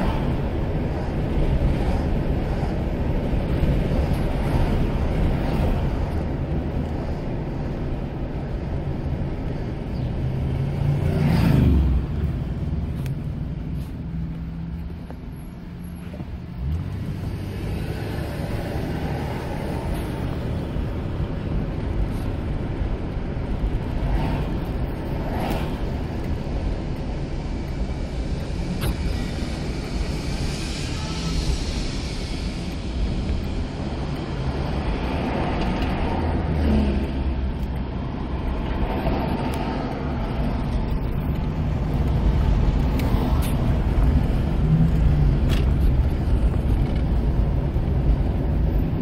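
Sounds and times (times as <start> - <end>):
car road and engine noise: 0.0 - 49.0.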